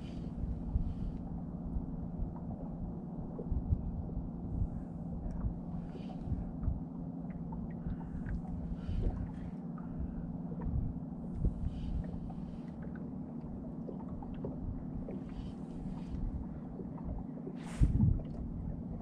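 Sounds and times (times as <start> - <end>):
wind rumble on microphone: 0.0 - 13.0, 13.9 - 19.0
steady low hum: 0.0 - 19.0.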